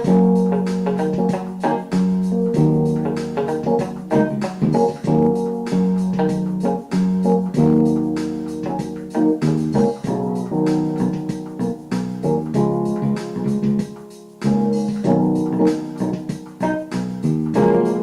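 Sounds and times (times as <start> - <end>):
organ-like keyboard chords: 0.0 - 18.0.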